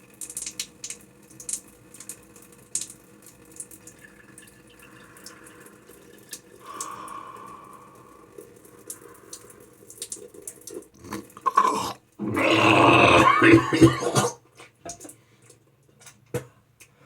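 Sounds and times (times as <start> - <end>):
water bubbling and dripping: 0.1 - 14.2.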